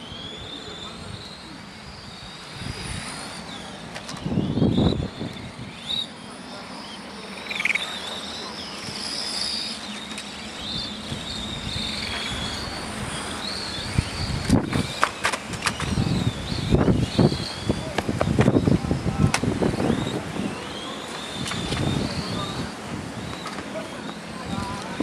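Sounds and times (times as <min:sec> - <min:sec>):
toy racing car motors whining: 0:00.0 - 0:25.0.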